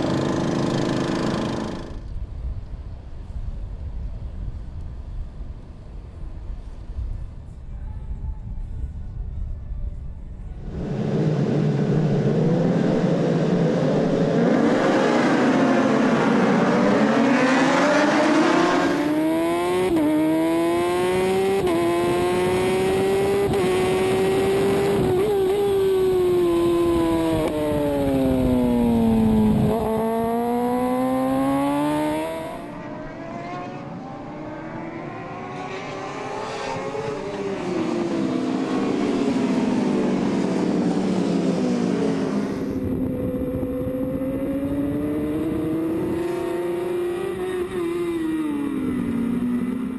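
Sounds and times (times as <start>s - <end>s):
racing motorbike engines revving: 0.0s - 2.1s, 10.6s - 49.9s.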